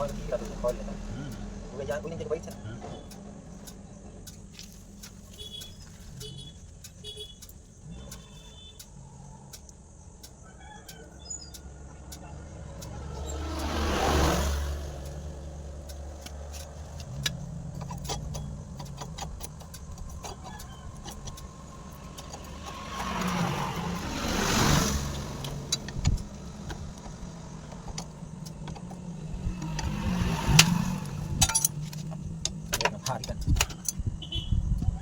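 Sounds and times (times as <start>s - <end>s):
vehicle engine running: 0.0s - 10.4s, 11.2s - 35.0s
sharp metallic clicks: 0.0s - 34.8s.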